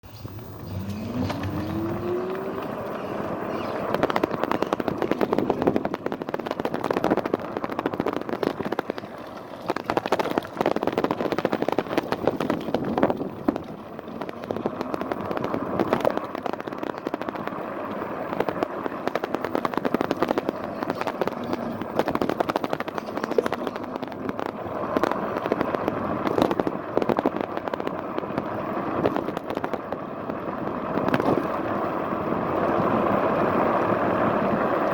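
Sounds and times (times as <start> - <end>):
electric scooter motor whine: 0.0 - 34.9
wind noise: 0.0 - 34.9.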